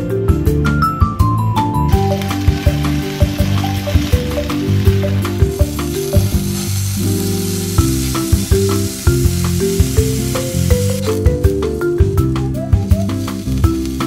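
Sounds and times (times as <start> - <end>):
background music: 0.0 - 14.0
food sizzling in oil: 1.9 - 14.0.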